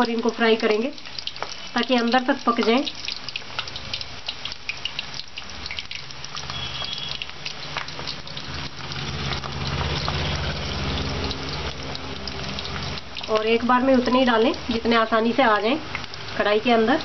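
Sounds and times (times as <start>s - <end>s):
dumplings sizzling in oil: 0.0s - 17.0s.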